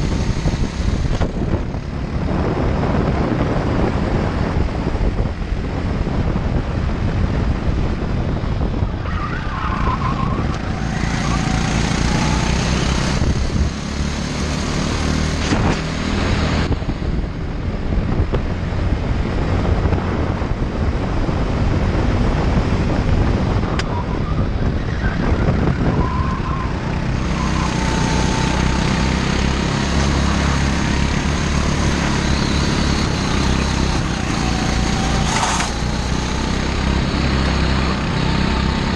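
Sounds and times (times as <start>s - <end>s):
go-kart engine running hard: 0.0s - 38.9s.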